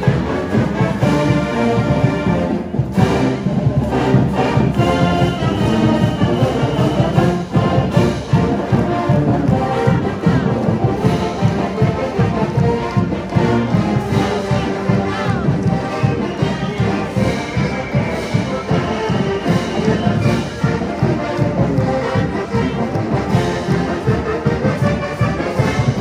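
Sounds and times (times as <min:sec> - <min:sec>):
marching band brass: 0:00.0 - 0:26.0
steady drum beat: 0:00.0 - 0:26.0.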